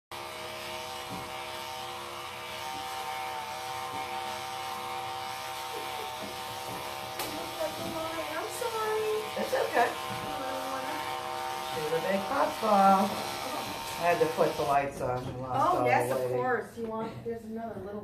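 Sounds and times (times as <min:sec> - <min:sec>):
electric clippers buzzing: 0:00.1 - 0:16.6.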